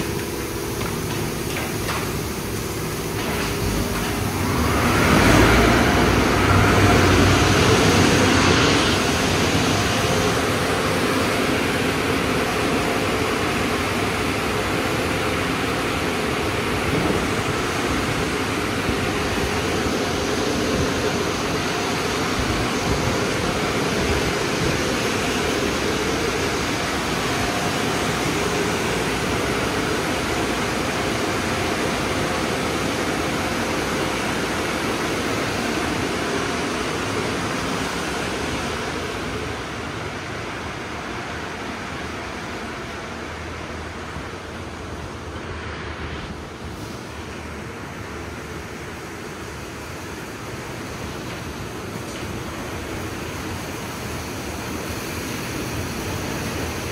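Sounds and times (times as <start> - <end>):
blower dryers rushing air: 0.0 - 56.9.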